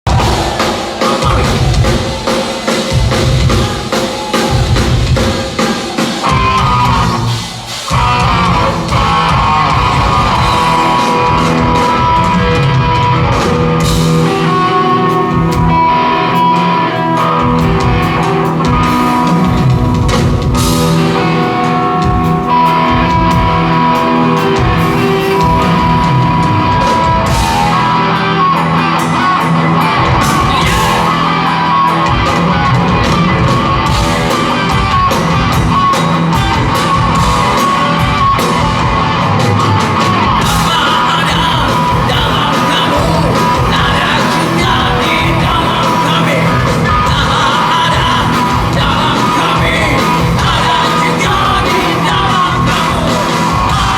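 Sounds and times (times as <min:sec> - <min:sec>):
distorted electric guitars: 0:00.0 - 0:53.9
drum kit: 0:00.0 - 0:53.9.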